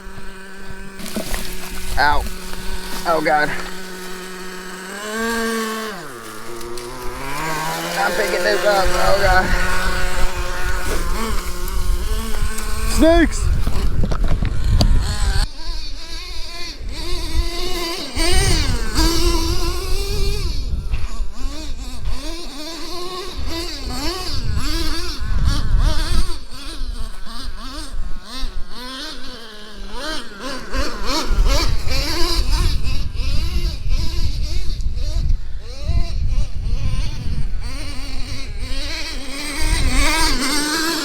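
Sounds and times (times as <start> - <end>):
model truck engine revving: 0.0 - 41.0.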